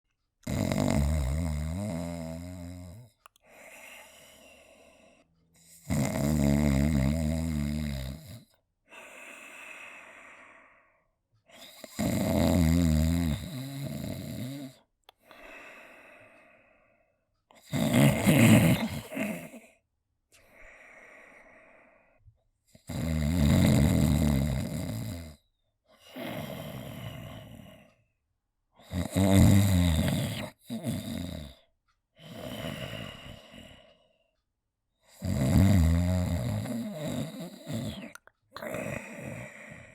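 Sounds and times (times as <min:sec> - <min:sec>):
person snoring: 0:00.4 - 0:16.9, 0:17.6 - 0:22.2, 0:22.8 - 0:25.4, 0:26.0 - 0:28.0, 0:28.8 - 0:31.6, 0:32.2 - 0:34.1, 0:35.1 - 0:39.9
quiet breathing: 0:02.0 - 0:12.0, 0:13.2 - 0:22.9, 0:24.6 - 0:28.2, 0:29.0 - 0:35.2, 0:36.2 - 0:39.9.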